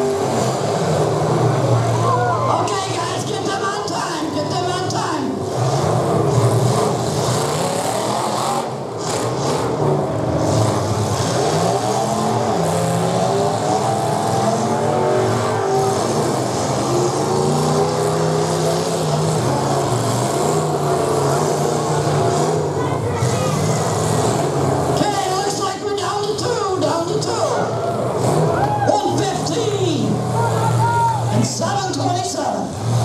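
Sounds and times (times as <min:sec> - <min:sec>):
car engines revving hard: 0:00.0 - 0:33.0.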